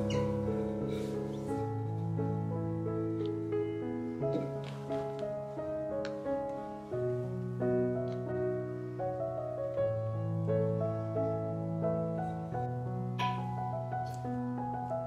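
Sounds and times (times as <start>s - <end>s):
slow keyboard melody: 0.0s - 15.0s.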